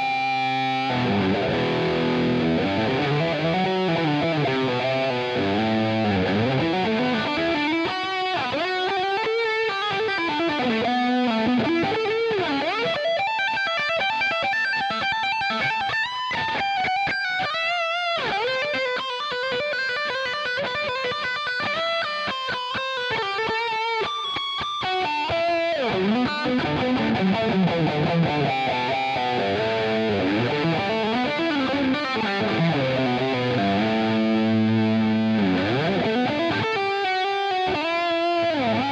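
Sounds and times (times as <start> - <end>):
distorted electric guitar lead: 0.0 - 38.9.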